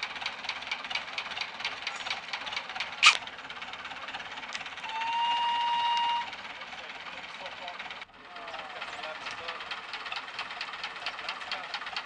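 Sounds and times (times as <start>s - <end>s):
tractor engine clattering: 0.0s - 12.0s.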